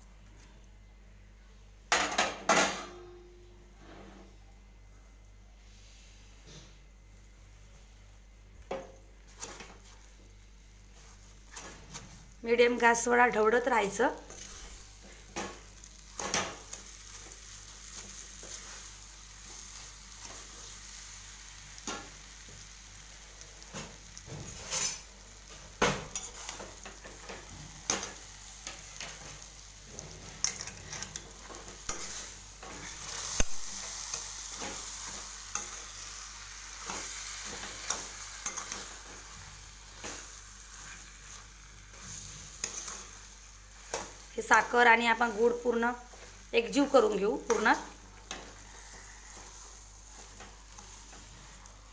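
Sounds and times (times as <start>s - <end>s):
food sizzling in metal pan: 8.7s - 51.9s.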